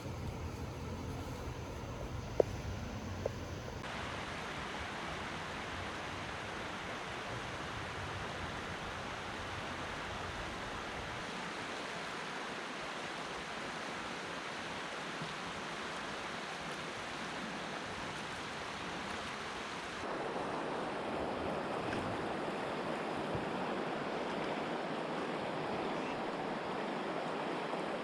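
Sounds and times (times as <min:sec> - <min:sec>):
creek rushing over rapids: 0:00.0 - 0:28.0.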